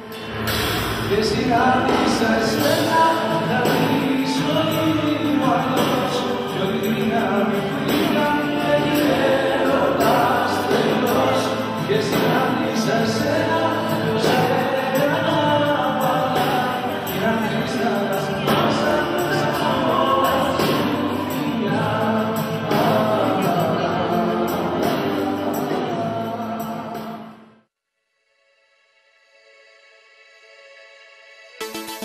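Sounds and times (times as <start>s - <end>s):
musical accompaniment: 0.0s - 27.6s, 31.6s - 32.0s
man singing into a microphone: 1.1s - 27.4s.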